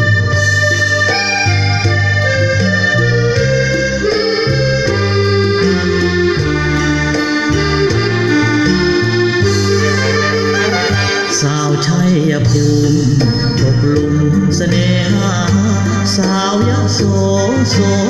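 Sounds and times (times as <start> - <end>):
bass line: 0.0 - 18.0
reedy lead melody: 0.0 - 18.0.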